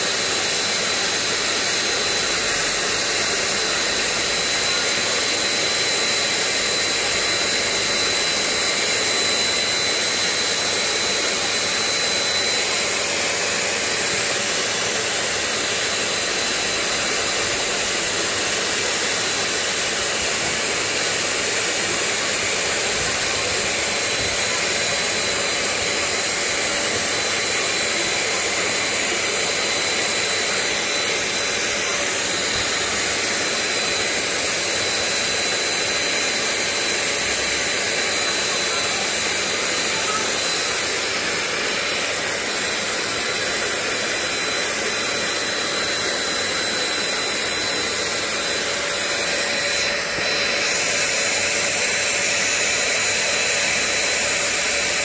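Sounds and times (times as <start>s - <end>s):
handheld vacuum cleaner running: 0.0s - 55.0s.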